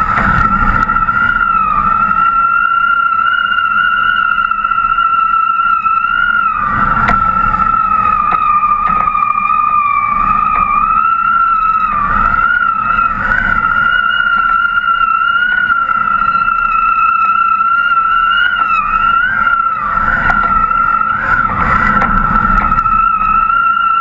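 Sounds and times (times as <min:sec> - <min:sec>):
wind rushing on microphone: 0:00.0 - 0:24.0
wind whistling over lines: 0:00.0 - 0:24.0.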